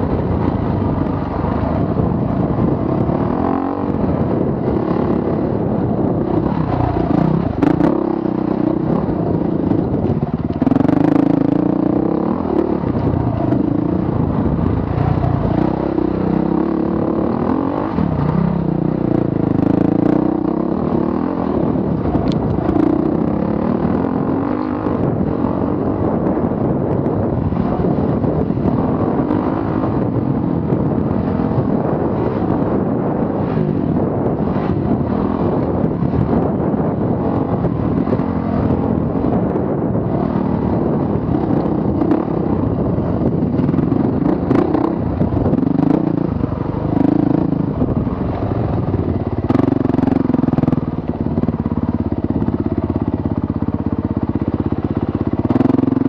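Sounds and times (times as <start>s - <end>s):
dirt bike engine revving: 1.0s - 51.6s.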